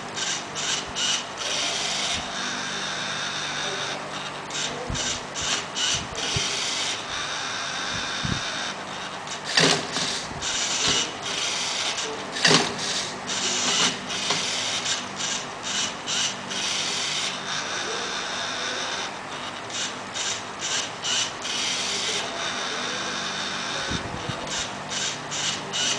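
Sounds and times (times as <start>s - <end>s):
robot motors grinding: 0.0s - 25.9s.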